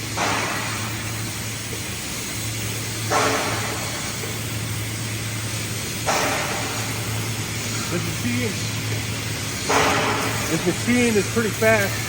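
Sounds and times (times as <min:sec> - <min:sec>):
paint gun spray hiss: 0:00.0 - 0:12.0
paint spraying machine humming: 0:00.0 - 0:12.0.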